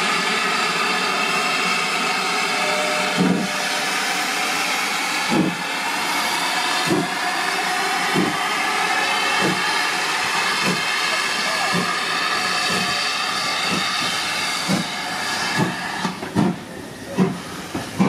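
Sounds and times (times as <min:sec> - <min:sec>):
steam hissing: 0:00.0 - 0:18.0
steam locomotive exhaust chuffs: 0:00.0 - 0:18.0.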